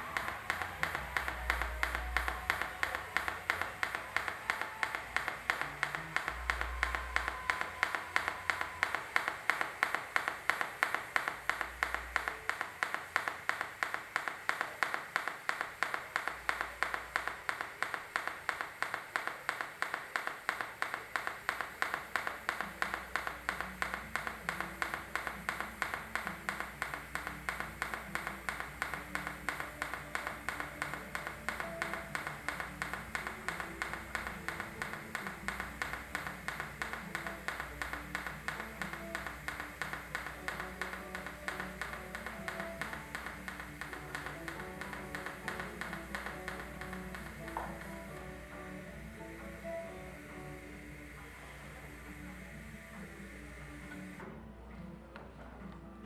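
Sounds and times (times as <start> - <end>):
pulsed welding arc buzzing: 0.0 - 54.2.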